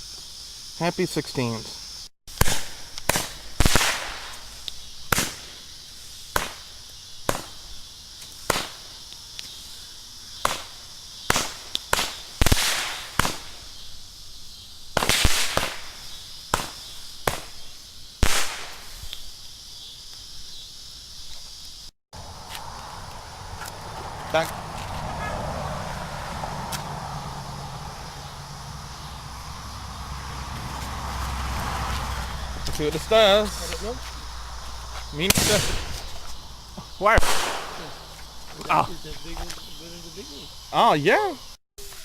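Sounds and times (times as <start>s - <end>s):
firework bangs with hissing tail: 2.3s - 20.4s, 24.6s - 40.3s.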